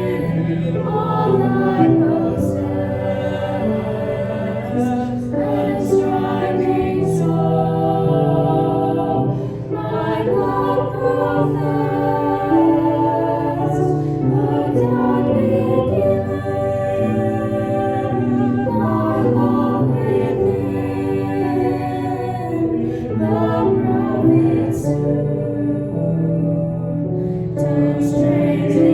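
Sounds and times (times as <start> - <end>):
choir singing a slow hymn: 0.0 - 28.9.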